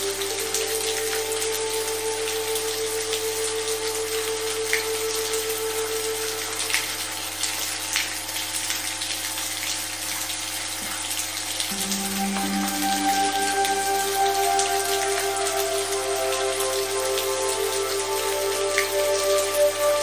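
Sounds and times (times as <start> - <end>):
sustained pure tone drone: 0.0 - 7.9, 11.7 - 20.0
soft rain: 0.0 - 20.0.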